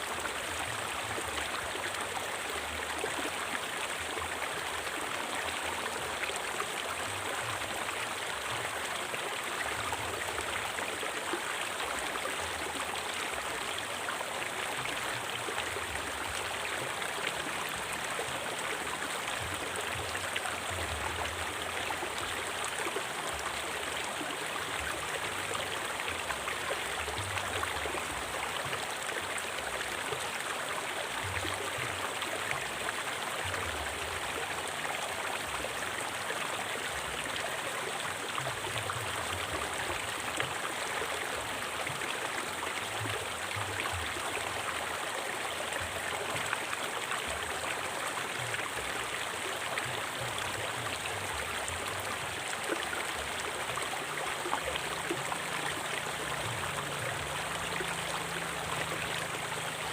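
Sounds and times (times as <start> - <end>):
river flowing over rocks: 0.0 - 59.9.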